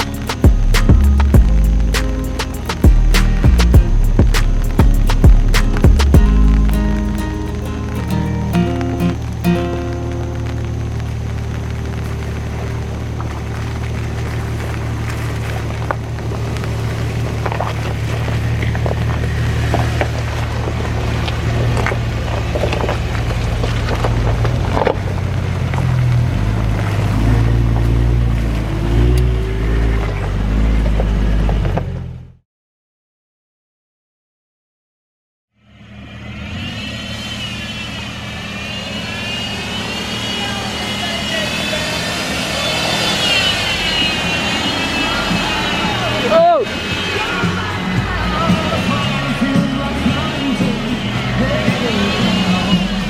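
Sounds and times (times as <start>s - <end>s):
high whine: 0.0s - 30.6s, 35.5s - 53.0s
engine running at low revs: 0.0s - 32.4s, 35.5s - 53.0s.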